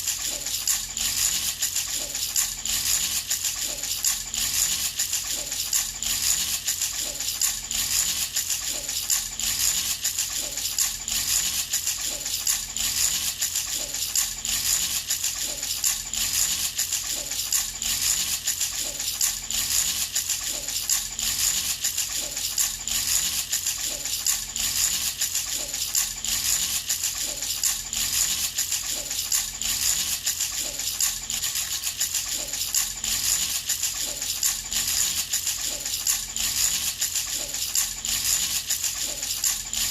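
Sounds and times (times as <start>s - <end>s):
toy rattle jingling: 0.0s - 39.9s.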